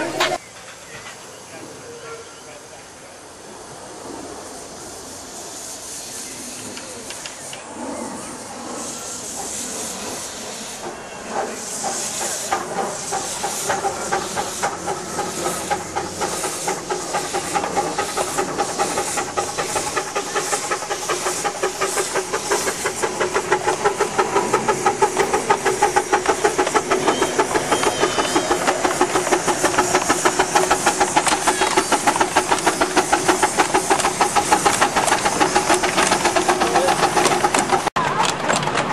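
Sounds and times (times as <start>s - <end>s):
steam hissing: 0.0s - 38.0s
steam locomotive exhaust beats: 3.9s - 38.9s.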